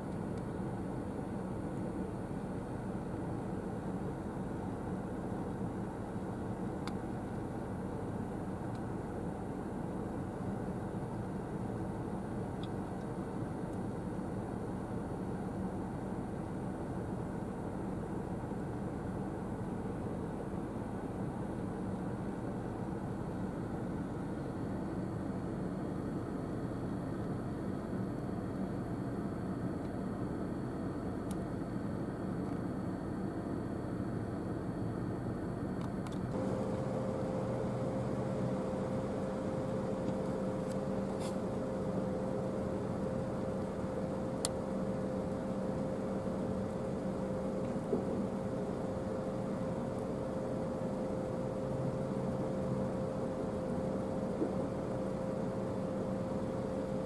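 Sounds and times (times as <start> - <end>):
faint high whine: 0.0 - 57.0
mechanical hum: 0.0 - 57.0.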